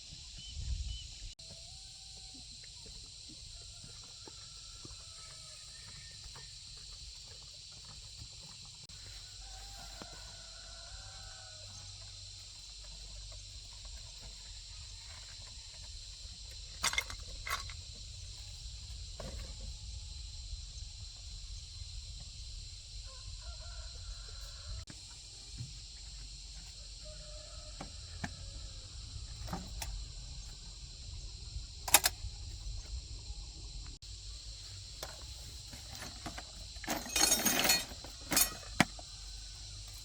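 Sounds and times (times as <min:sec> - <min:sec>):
insect drone: 0:00.0 - 0:40.0.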